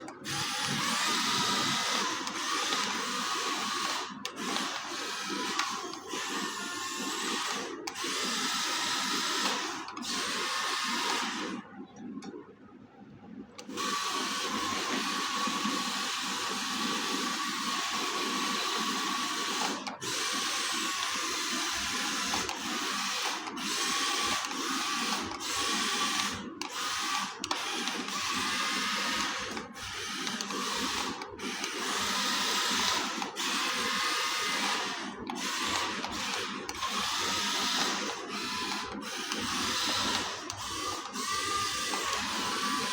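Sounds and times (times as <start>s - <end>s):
toy tractor electric motor whining: 0.0s - 11.6s, 13.6s - 42.9s.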